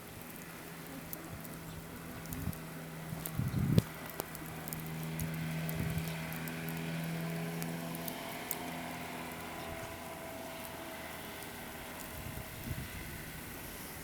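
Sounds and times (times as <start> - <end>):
motor hum: 0.0 - 14.0
faint ticks: 0.2 - 12.2.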